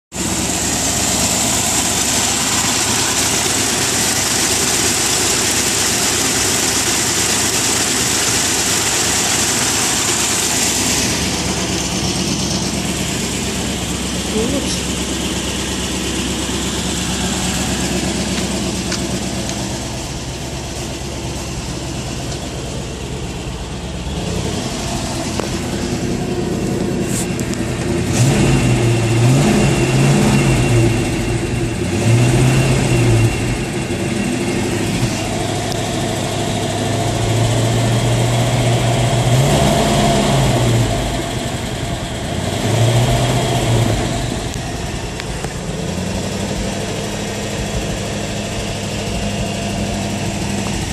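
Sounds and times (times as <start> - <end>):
truck engine idling and revving: 0.1 - 50.9.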